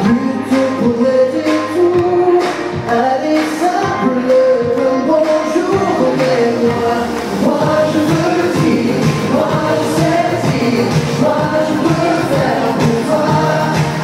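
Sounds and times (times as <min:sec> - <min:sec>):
group singing pop song in harmony: 0:00.0 - 0:14.0
steady beat: 0:00.0 - 0:14.0.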